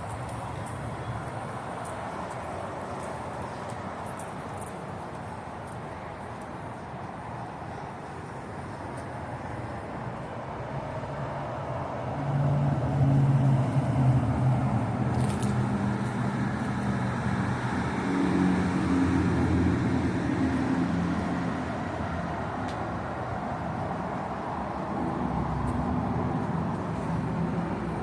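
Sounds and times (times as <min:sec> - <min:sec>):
road traffic noise: 0:00.0 - 0:28.0
vehicle engine hum: 0:00.0 - 0:28.0.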